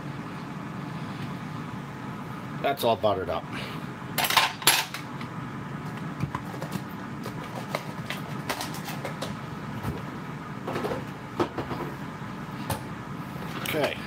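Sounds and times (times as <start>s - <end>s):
air fryer fan hum: 0.0s - 14.0s.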